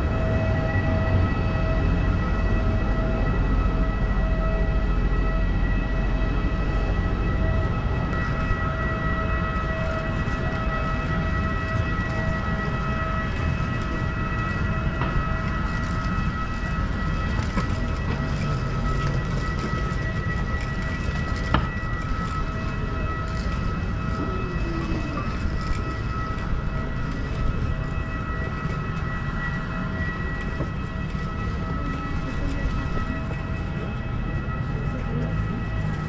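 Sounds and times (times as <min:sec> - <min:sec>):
jet airliner whine: 0:00.0 - 0:36.0.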